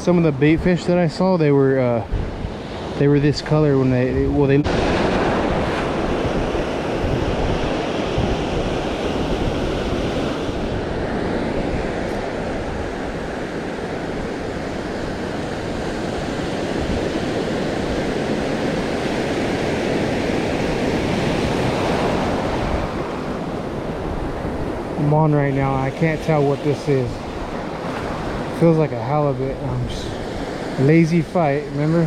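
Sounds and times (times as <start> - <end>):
wash of open water: 0.0 - 32.0
wind buffeting the microphone: 0.0 - 32.0.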